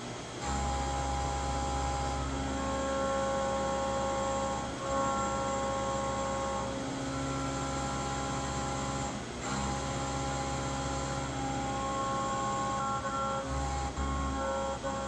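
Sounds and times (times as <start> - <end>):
milling machine whine: 0.0 - 15.0.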